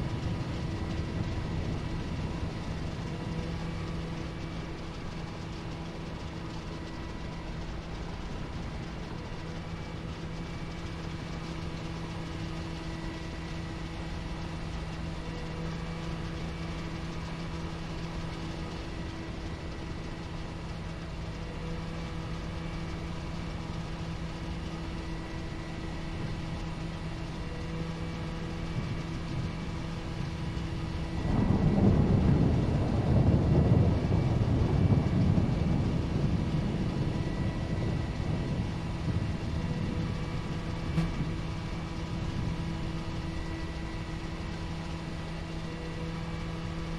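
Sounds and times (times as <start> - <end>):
loud rough rumble: 0.0 - 46.9
piston aircraft engines droning: 0.0 - 46.9.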